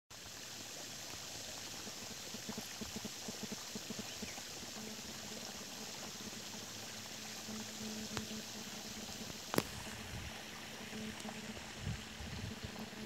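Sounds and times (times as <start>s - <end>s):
steady outdoor hiss: 0.1s - 13.0s.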